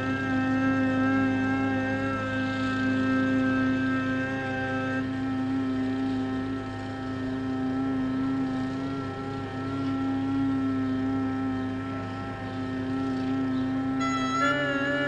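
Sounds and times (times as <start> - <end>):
low hum: 0.0 - 15.0
low sustained drone: 0.0 - 15.0.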